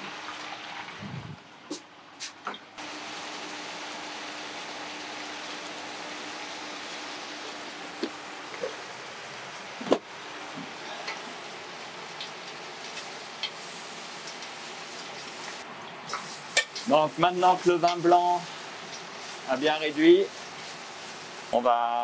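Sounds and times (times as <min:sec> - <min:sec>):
sizzling in a stockpot: 0:02.8 - 0:22.0.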